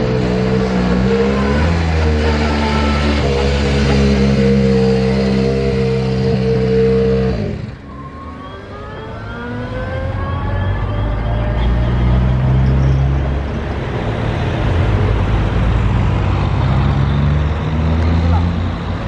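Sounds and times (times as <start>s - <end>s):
rally car engine: 0.0s - 19.0s.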